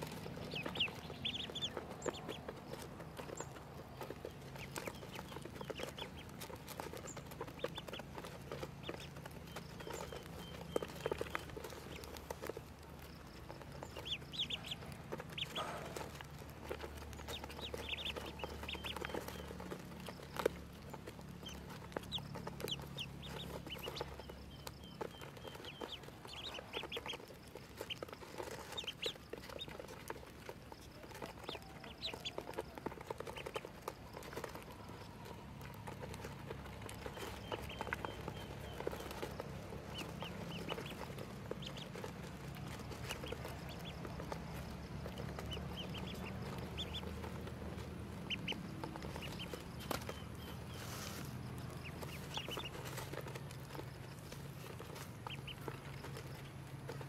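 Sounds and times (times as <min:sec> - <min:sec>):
ducklings peeping: 0:00.0 - 0:57.0.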